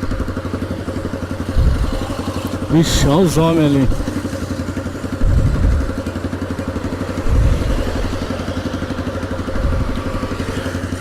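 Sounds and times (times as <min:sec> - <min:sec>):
loud motorcycle engine running: 0:00.0 - 0:11.0.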